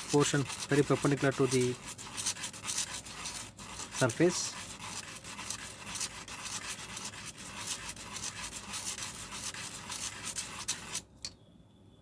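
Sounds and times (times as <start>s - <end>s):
plastic scraping on emery paper: 0.0s - 11.0s.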